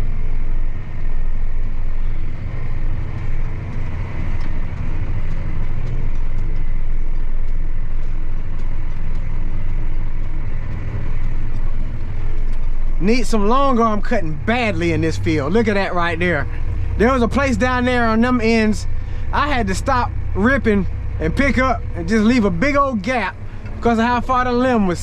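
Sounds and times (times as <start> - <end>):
faint steady whine: 0.0 - 25.0
tractor engine droning: 0.0 - 25.0.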